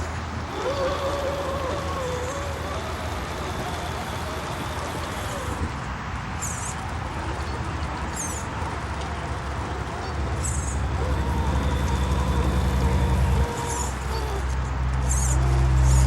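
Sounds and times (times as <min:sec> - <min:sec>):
pulsing diesel engine rumble: 0:00.0 - 0:16.0.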